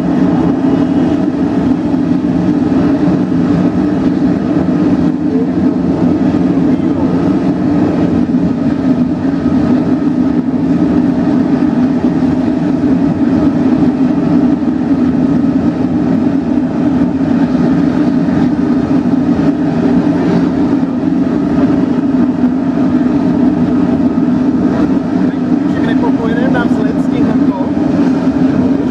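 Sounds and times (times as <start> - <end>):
jet engines droning with hiss: 0.0 - 28.9.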